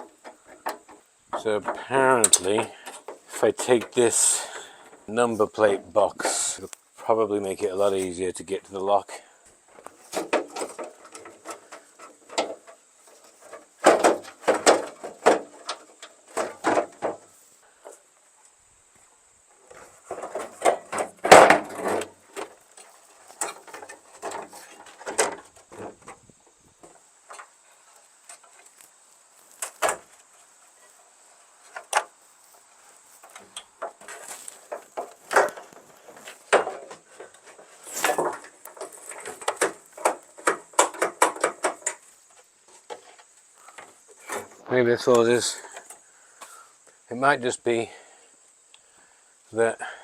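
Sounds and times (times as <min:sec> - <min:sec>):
clunks clicks and rattles of hand work: 0:00.0 - 0:07.2, 0:09.7 - 0:18.0, 0:19.6 - 0:31.0, 0:31.6 - 0:32.2, 0:33.2 - 0:46.0.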